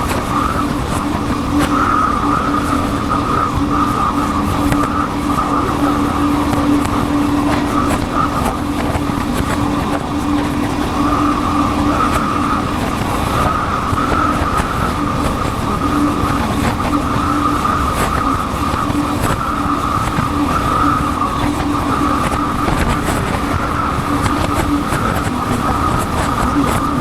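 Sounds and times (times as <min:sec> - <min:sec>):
wind rushing over microphone: 0:00.0 - 0:27.0.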